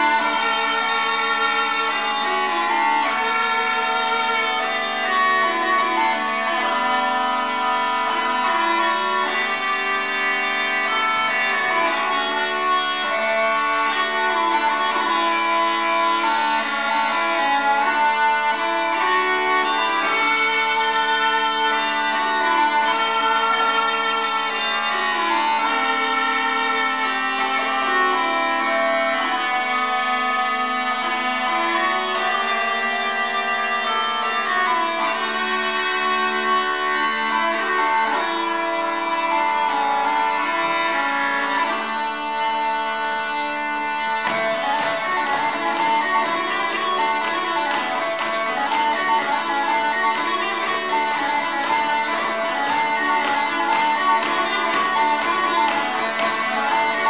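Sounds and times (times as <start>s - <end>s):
bagpipes playing: 0.0s - 57.0s.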